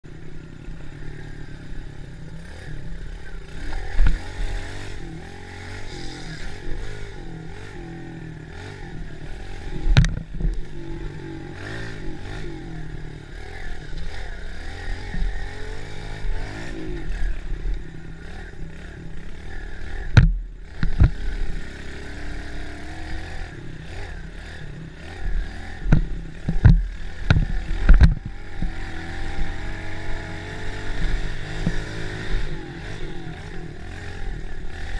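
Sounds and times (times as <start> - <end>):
small engine revving: 0.2 - 34.9.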